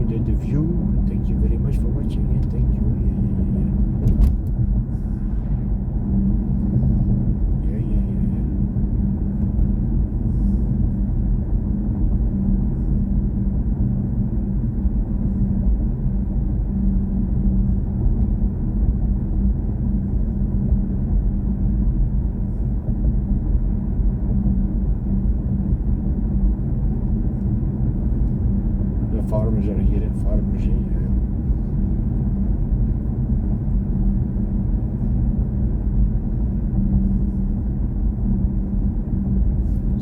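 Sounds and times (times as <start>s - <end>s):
faint steady hum: 0.0s - 40.0s
road and tyre noise in cabin: 0.0s - 40.0s.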